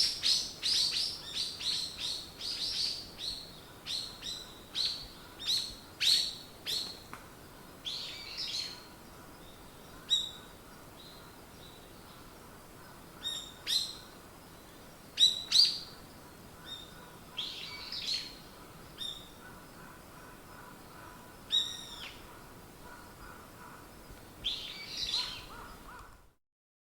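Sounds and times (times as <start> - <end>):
songbirds chirping: 0.0 - 26.2
faint steady hiss: 0.0 - 26.4.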